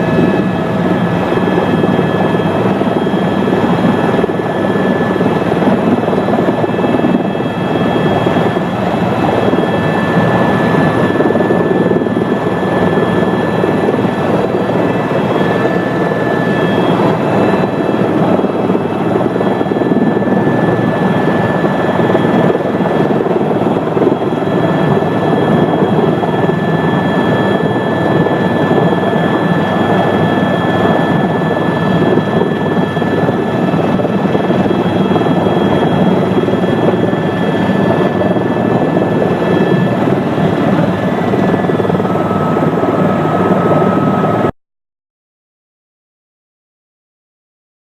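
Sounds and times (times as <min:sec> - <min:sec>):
high whine: 0:00.0 - 0:44.5
helicopter rotor and engine: 0:00.0 - 0:44.6.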